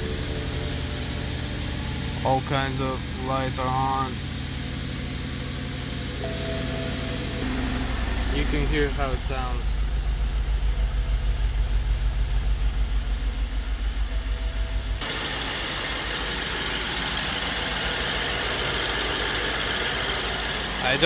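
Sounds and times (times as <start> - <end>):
car engine idling rough: 0.0 - 21.0.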